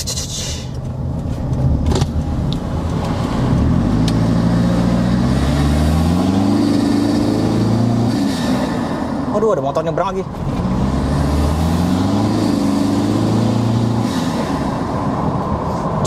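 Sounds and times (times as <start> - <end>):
diesel engine accelerating: 0.0 - 16.0.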